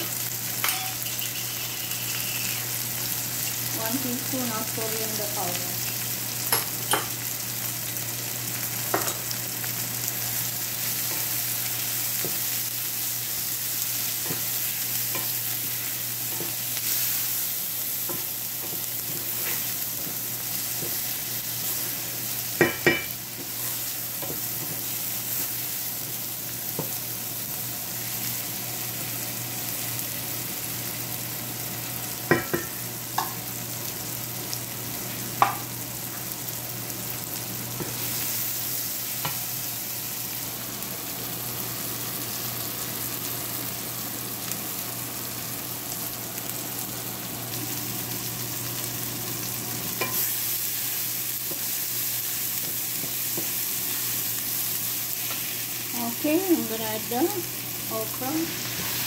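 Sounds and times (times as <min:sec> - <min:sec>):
vegetables sizzling in a frying pan: 0:00.0 - 0:59.0.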